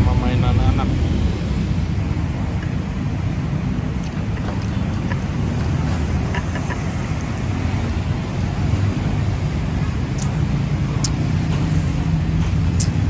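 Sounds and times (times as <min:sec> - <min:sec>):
road traffic rumble: 0:00.0 - 0:13.0
wind buffeting microphone: 0:00.0 - 0:13.0.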